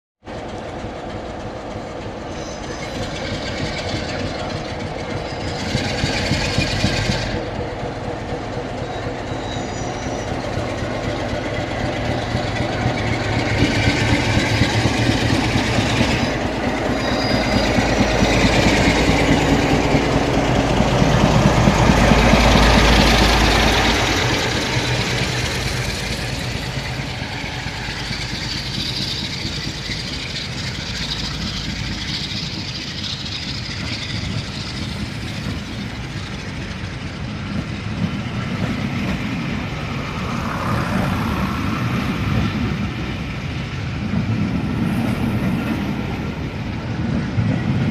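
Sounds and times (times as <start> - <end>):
diesel locomotive engine working hard: 0.2 - 47.9
train coaches rolling and clattering: 0.3 - 47.9.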